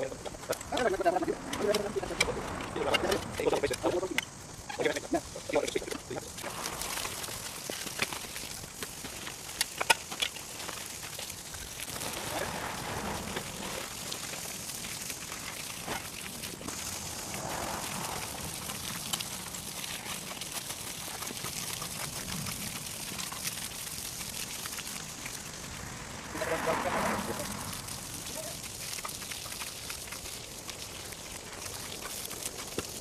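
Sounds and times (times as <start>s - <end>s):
steady hiss with crackling: 0.0s - 33.0s.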